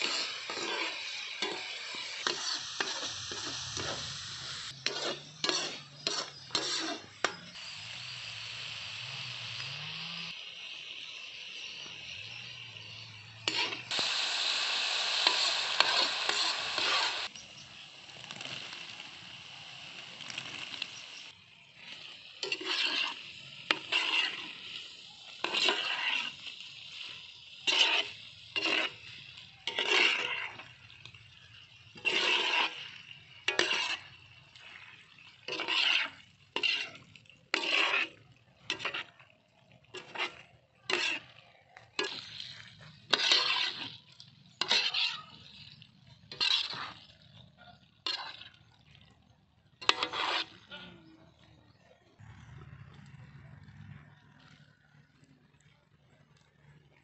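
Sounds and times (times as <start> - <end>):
wooden spatula scraping a wok: 0.0 - 10.3, 11.5 - 17.4, 18.4 - 51.4
curry sizzling in a wok: 0.0 - 52.5.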